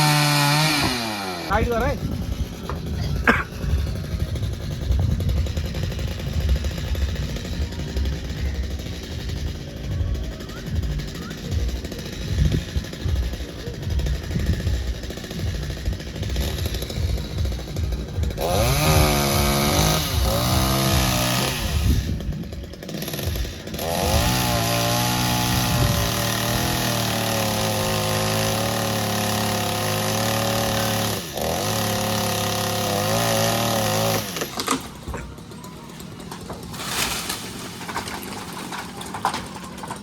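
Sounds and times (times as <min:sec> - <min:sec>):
chainsaw revving: 0:00.0 - 0:40.0.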